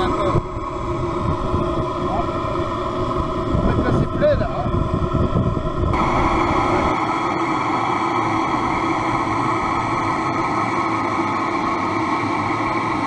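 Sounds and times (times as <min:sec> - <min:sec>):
steam engine hissing rush: 0:00.0 - 0:13.0.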